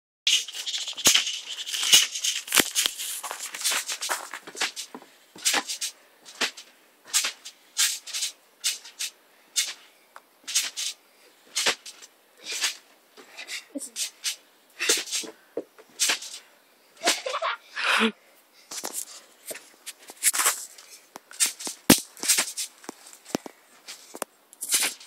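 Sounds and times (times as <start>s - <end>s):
trampoline thumps and spring rattles: 0.3s - 17.5s, 20.2s - 25.0s
steady hiss: 0.3s - 25.0s.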